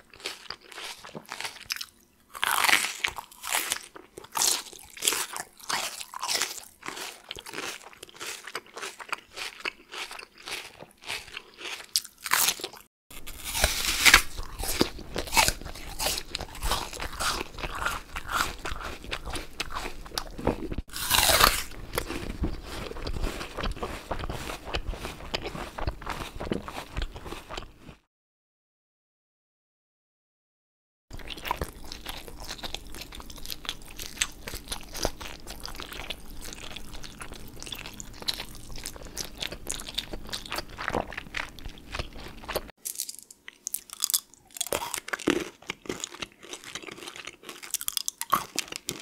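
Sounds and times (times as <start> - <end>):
crunchy food chewing: 0.0 - 28.0, 31.2 - 49.0.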